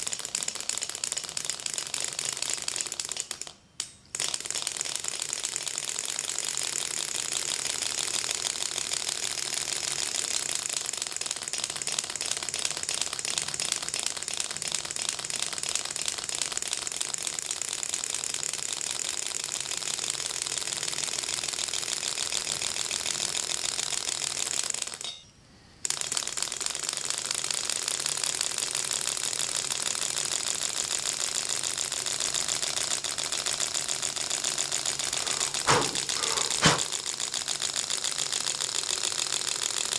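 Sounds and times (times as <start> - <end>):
engine rapid clicking clatter: 4.2 - 25.0, 25.9 - 39.9.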